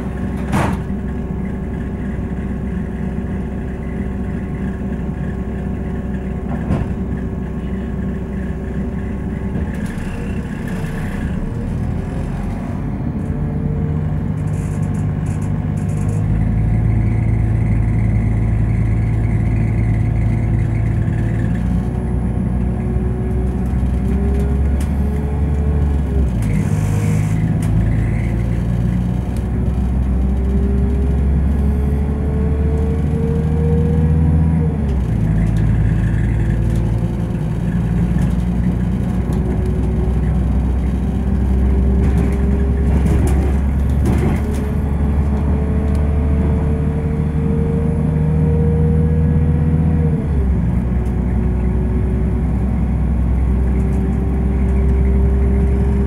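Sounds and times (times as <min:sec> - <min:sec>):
diesel train engine: 0:00.0 - 0:56.0.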